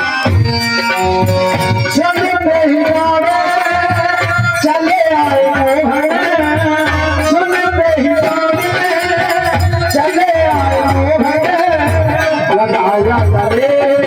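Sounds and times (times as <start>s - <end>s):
steady drum beat: 0.0s - 14.0s.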